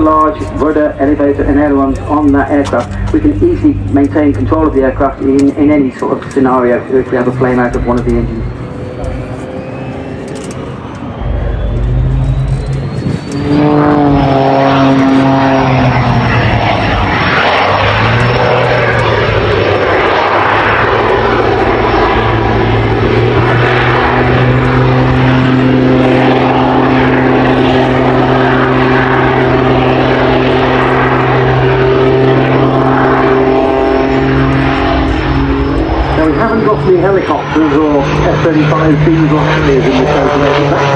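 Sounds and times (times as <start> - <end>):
high turbine whine: 0.0 - 40.9
low engine drone: 0.0 - 40.9.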